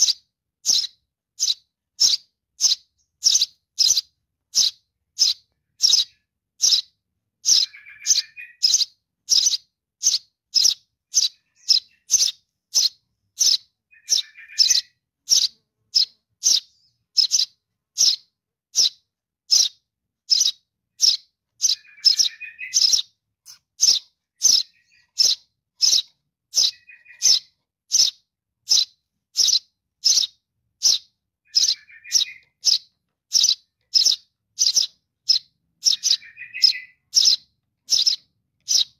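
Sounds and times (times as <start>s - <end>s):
baby sparrow begging chirps: 0.0s - 38.9s.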